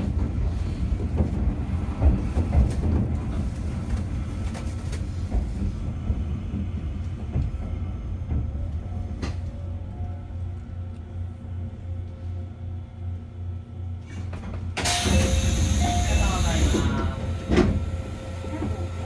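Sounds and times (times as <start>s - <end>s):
electric train rumbling on track: 0.0s - 19.0s.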